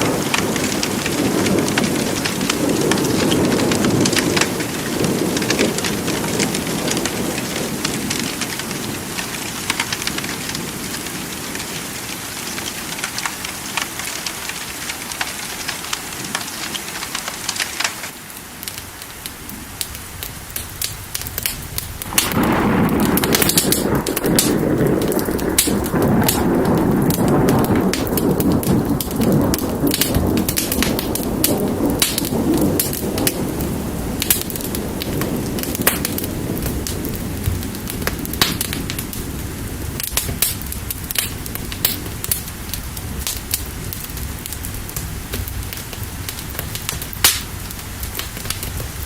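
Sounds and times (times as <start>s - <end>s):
rolling thunder: 0.0s - 13.8s, 19.5s - 49.0s
steady rain: 0.0s - 49.0s.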